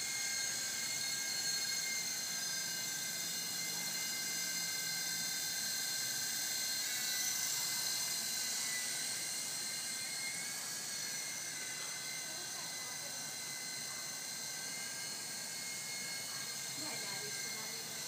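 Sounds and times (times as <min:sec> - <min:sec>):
toy helicopter motor whine: 0:00.0 - 0:18.0.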